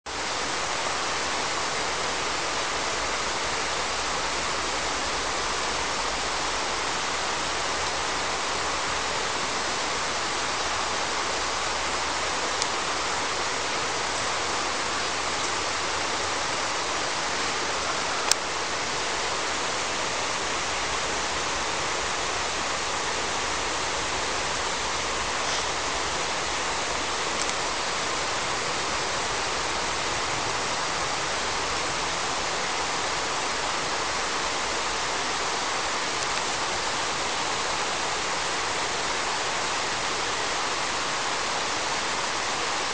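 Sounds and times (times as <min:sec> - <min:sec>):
river water rushing: 0:00.1 - 0:42.9.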